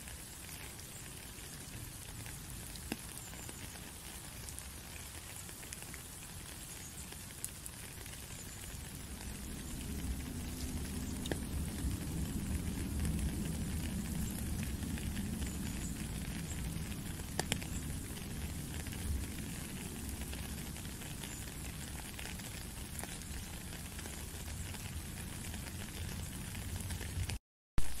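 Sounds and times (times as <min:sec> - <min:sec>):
rain falling on puddle: 0:00.0 - 0:28.0.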